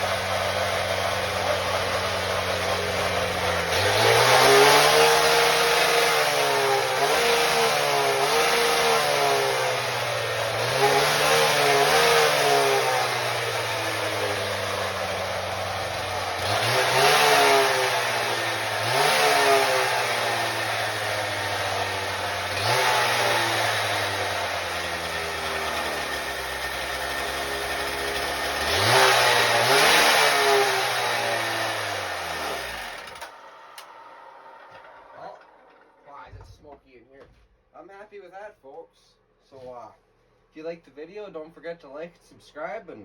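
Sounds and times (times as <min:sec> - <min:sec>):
concrete saw engine idling and revving: 0:00.0 - 0:36.4.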